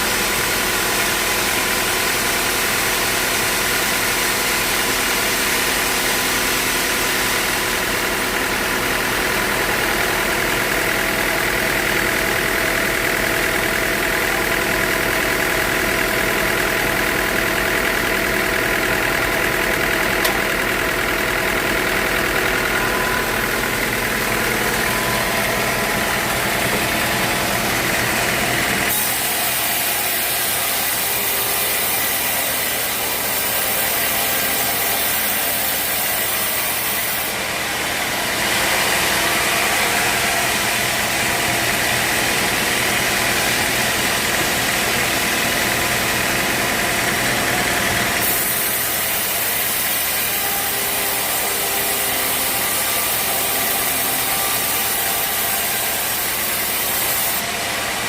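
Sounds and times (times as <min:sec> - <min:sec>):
saw cutting wood: 0:00.0 - 0:58.0
sawmill engine running: 0:00.0 - 0:58.0.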